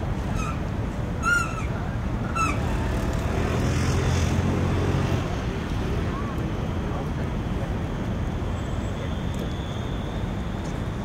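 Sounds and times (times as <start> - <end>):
low rumble of engines: 0.0 - 11.0
wind: 0.0 - 11.0.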